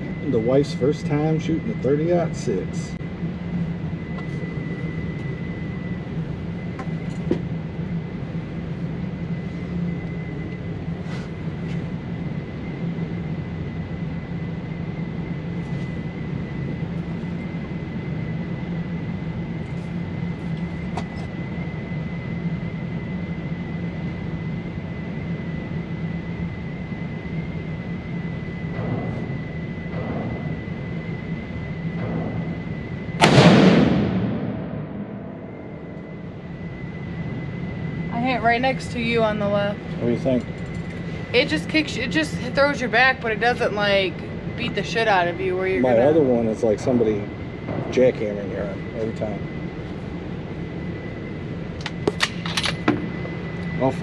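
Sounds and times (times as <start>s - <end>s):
air-handling system rumble: 0.0s - 54.0s.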